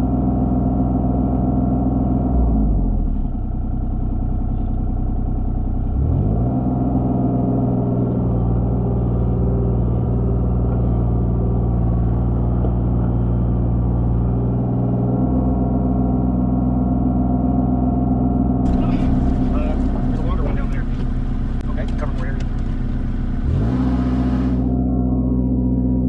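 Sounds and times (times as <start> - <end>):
heavy equipment engine running: 0.0 - 26.0.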